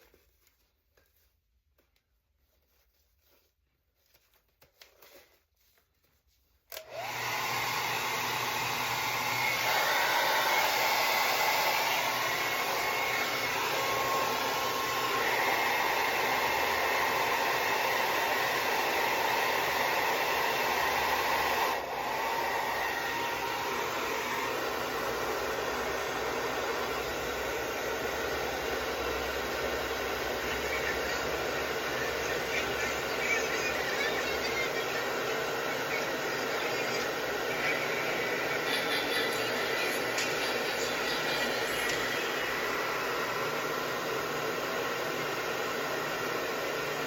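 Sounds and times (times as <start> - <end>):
hair dryer blowing: 6.7 - 47.0.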